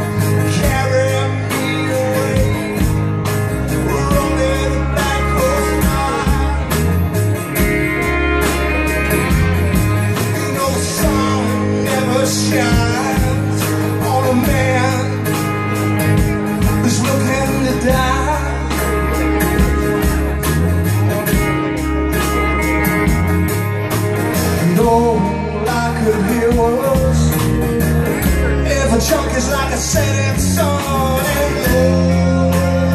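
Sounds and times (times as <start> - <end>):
live band playing guitars: 0.0 - 32.9.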